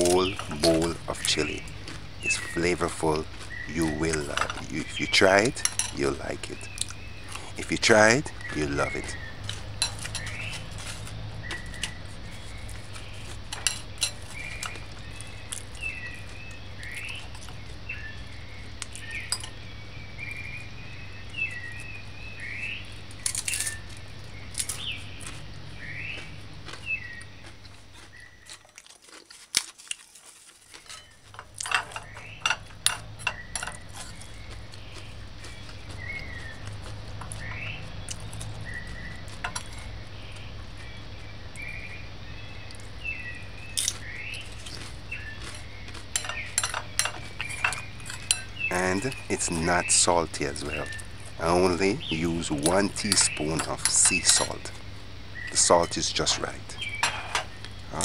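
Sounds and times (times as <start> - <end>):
chirps in background: 0.0 - 28.6, 30.6 - 58.0
steady low hum: 0.0 - 28.6, 30.8 - 58.0.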